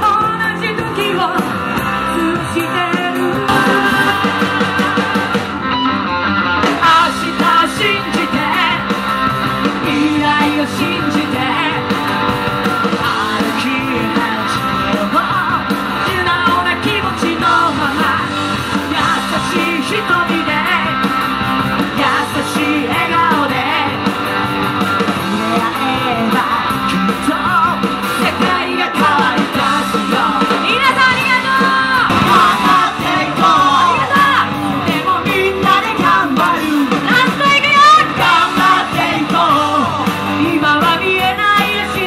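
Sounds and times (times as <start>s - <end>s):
person singing: 0.0s - 5.4s, 6.7s - 9.0s, 9.6s - 12.3s, 12.9s - 21.0s, 25.2s - 42.0s
live rock band playing: 0.0s - 42.0s.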